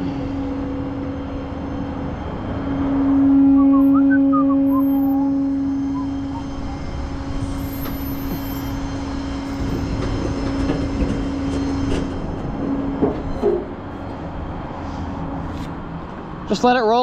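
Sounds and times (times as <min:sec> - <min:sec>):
truck engine rumble: 0:00.0 - 0:17.0
hydraulic whine: 0:00.1 - 0:14.2.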